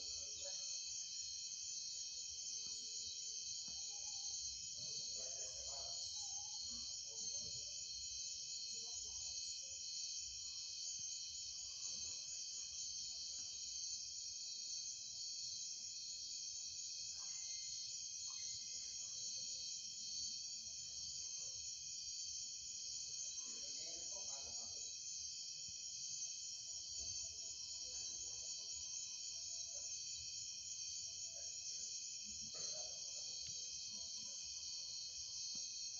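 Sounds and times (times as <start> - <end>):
night insects chorus: 0.0 - 35.9.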